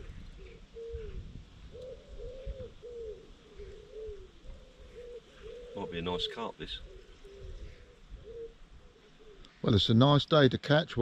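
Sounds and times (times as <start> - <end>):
dove cooing: 0.0 - 9.8.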